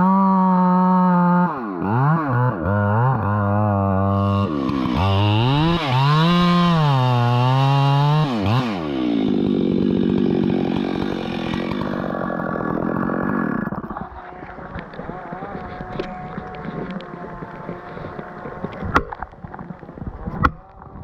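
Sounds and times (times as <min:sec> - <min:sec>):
chainsaw revving and cutting wood: 0:00.0 - 0:21.0.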